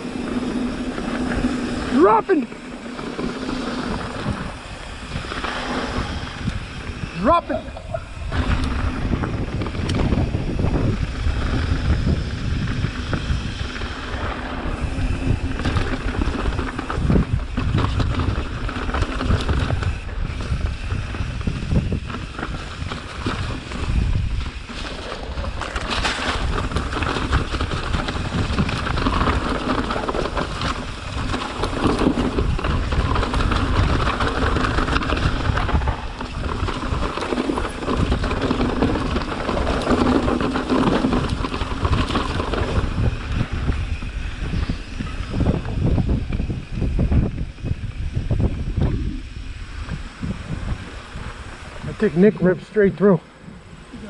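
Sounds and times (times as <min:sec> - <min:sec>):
bike knocking and rattling: 0:00.0 - 0:54.0
tyres on dirt: 0:00.0 - 0:54.0
wind buffeting microphone: 0:00.0 - 0:54.0.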